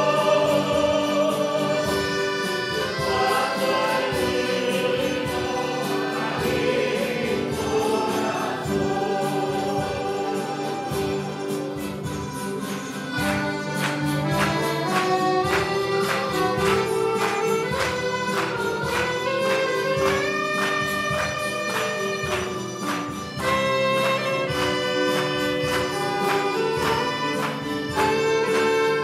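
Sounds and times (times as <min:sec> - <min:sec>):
acoustic guitars and mandolins: 0:00.0 - 0:29.0.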